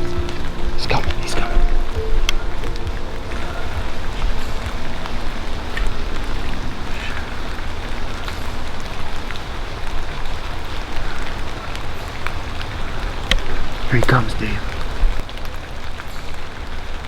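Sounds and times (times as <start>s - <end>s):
steady low rumble: 0.0s - 13.9s
rain falling: 0.0s - 17.0s.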